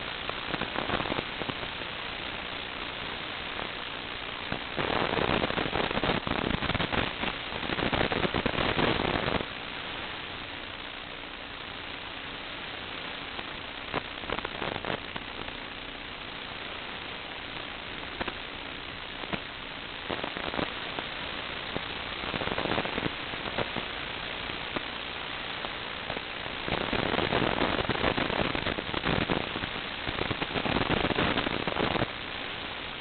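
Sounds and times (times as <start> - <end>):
static hiss with crackles: 0.0 - 33.0.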